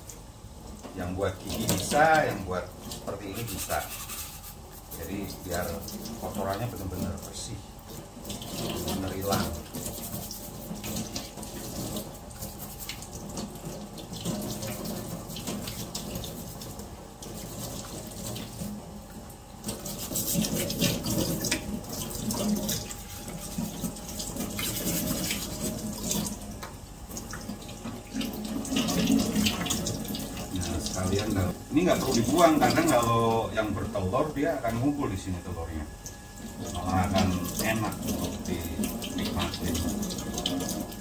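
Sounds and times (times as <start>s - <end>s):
tap water running into sink: 0.0s - 41.0s
brush scrubbing crab shell: 1.1s - 19.0s, 19.6s - 35.8s, 36.4s - 41.0s.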